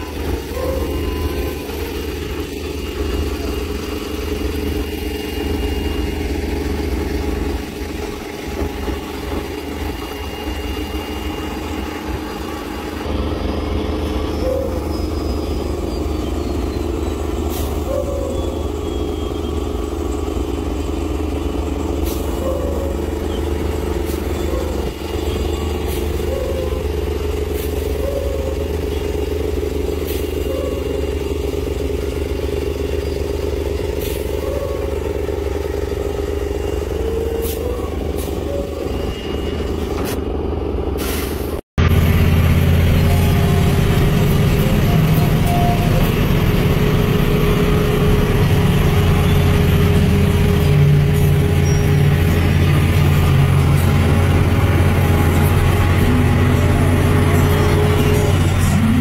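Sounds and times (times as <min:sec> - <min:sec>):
heavy diesel truck engine: 0:00.0 - 0:59.0.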